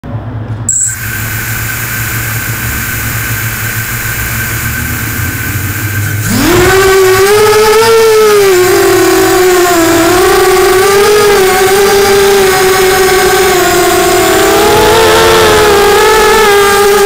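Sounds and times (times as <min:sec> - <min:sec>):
steady low hum: 0:00.1 - 0:17.0
quadcopter motors whining: 0:00.7 - 0:17.0.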